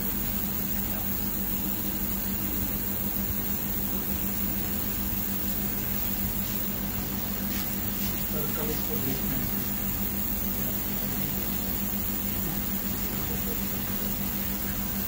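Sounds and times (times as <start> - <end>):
fan humming and hissing: 0.0 - 15.0.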